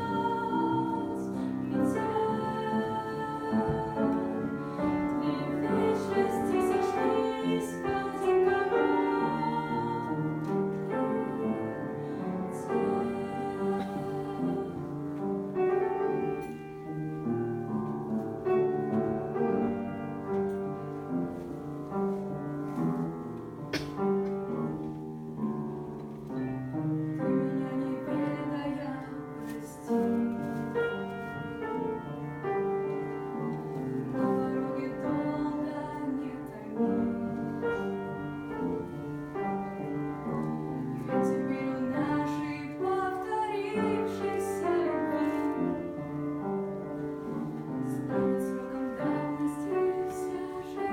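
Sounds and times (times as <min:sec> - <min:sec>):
piano playing slow ballad: 0:00.0 - 0:50.9.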